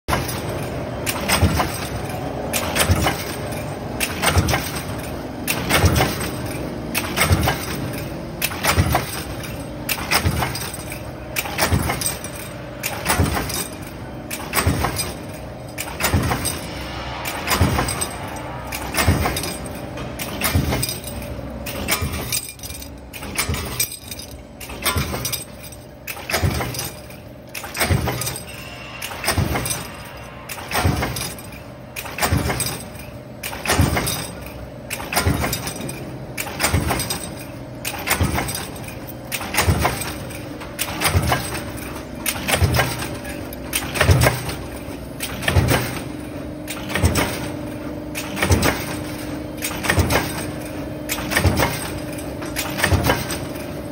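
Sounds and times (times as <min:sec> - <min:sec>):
metal parts clattering: 0:00.1 - 0:53.9
stamping press metallic impact: 0:00.1 - 0:53.9.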